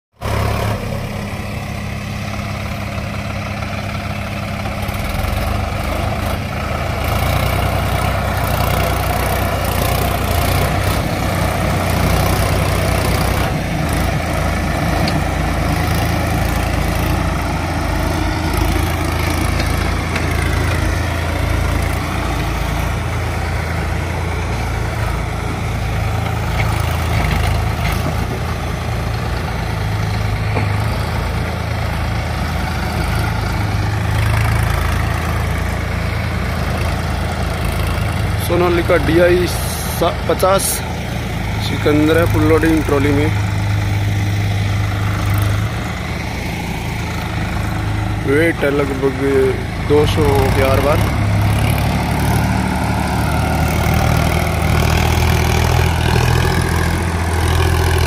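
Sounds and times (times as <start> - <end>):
tractor diesel engine under load: 0.1 - 58.0.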